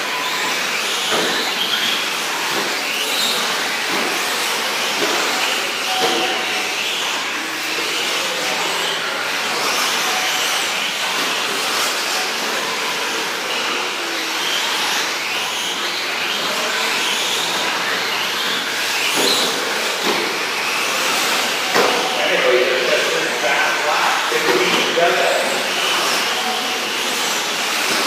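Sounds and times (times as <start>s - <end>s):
rc truck electric motors whining: 0.0s - 28.0s.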